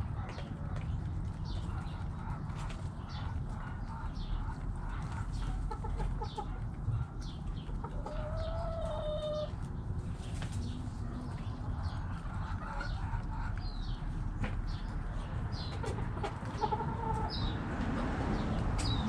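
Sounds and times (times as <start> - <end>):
hens clucking: 0.0 - 19.0
small birds chirping: 0.0 - 19.0.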